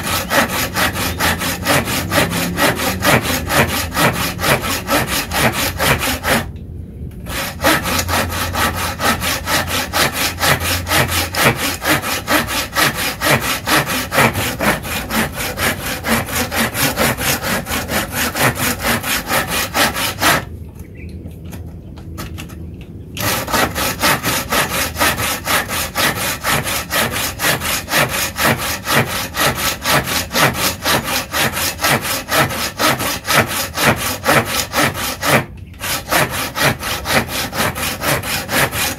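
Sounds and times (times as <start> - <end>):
saw cutting wood: 0.0 - 6.5, 7.3 - 20.5, 23.2 - 38.9.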